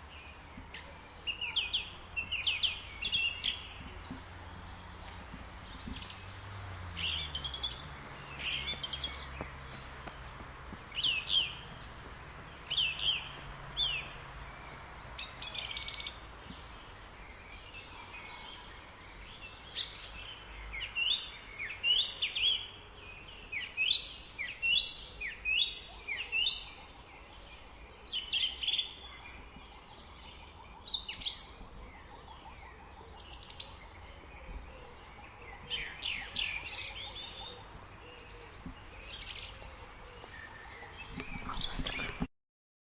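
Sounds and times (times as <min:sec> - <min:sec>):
faint background noise: 0:00.0 - 0:42.3.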